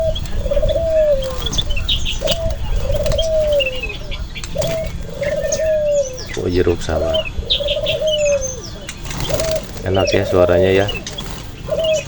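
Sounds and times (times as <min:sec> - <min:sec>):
bird cooing: 0:00.0 - 0:12.0
faint high bird chirps: 0:00.0 - 0:12.0.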